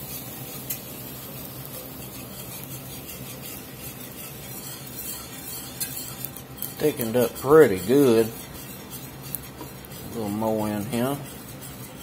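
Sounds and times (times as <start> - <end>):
wire whisk rasping against pan: 0.0 - 12.0.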